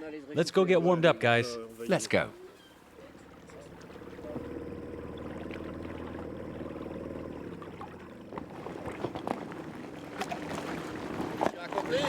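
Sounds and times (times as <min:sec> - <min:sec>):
boat engine running: 0:01.7 - 0:12.0.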